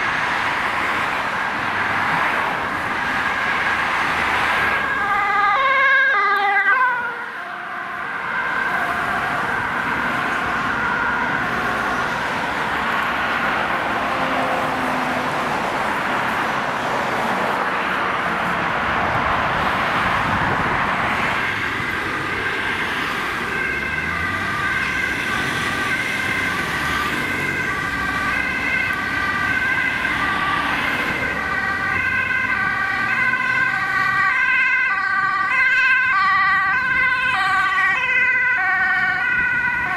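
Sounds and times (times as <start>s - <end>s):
road traffic noise: 0.0s - 39.9s
ambulance two-tone siren: 2.2s - 14.9s, 20.2s - 39.9s.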